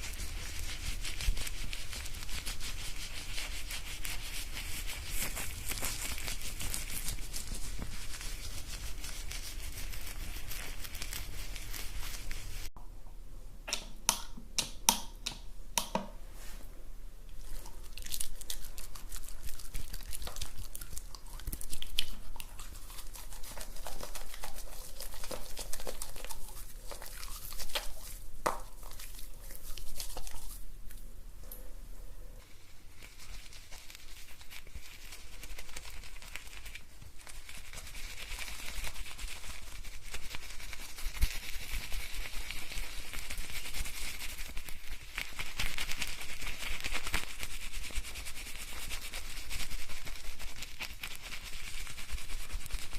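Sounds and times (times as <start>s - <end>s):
fingers scrubbing lathered scalp: 0.0s - 12.7s, 17.4s - 30.7s, 32.4s - 52.9s.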